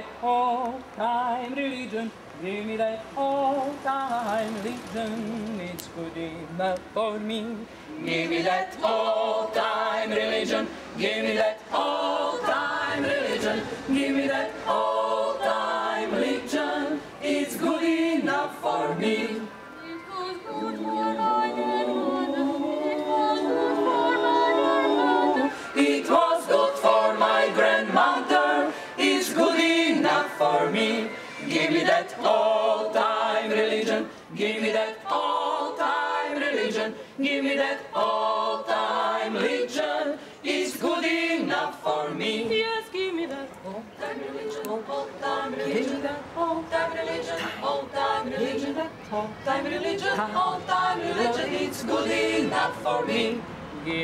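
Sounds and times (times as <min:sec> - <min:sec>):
women's choir singing a cappella: 0:00.0 - 0:54.0.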